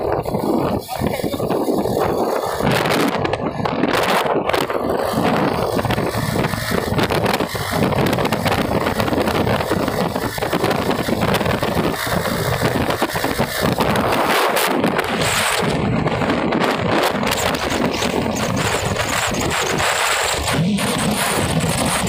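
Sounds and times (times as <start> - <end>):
motorcycle engine: 0.0 - 22.0
wind buffeting microphone: 0.0 - 22.0.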